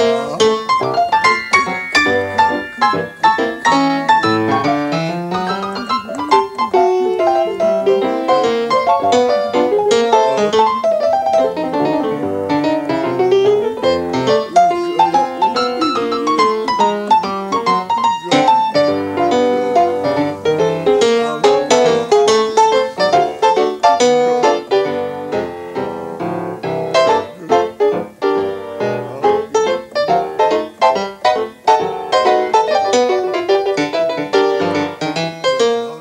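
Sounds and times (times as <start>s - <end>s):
fast jazz piano: 0.0s - 36.0s.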